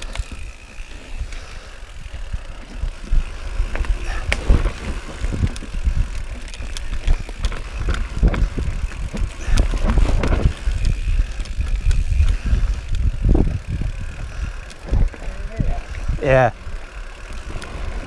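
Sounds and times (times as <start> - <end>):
bike rattling: 0.0 - 18.0
bike tyres rolling over dirt: 0.0 - 18.0.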